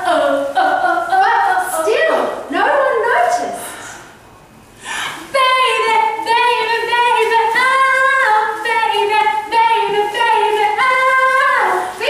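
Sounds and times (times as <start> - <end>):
woman singing unaccompanied: 0.0 - 3.4, 5.2 - 12.0.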